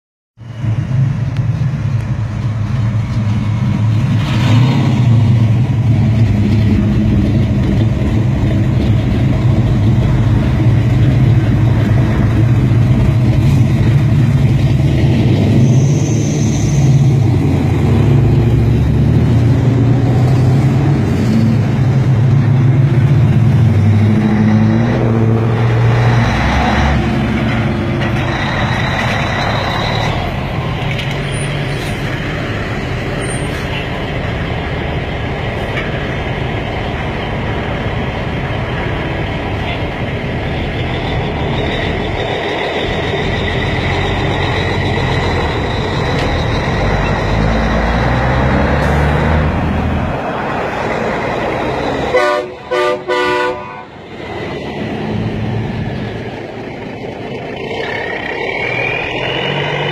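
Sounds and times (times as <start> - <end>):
car engines rumbling and revving: 0.4 - 59.9
truck engine: 0.4 - 59.9.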